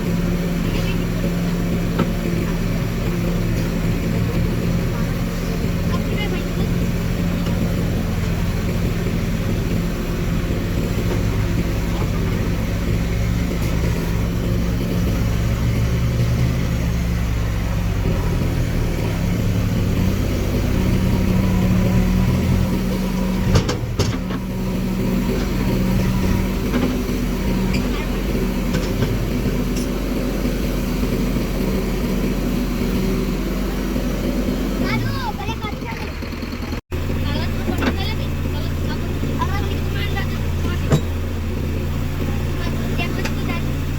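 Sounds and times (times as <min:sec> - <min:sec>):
heavy machine engine running: 0:00.0 - 0:43.9.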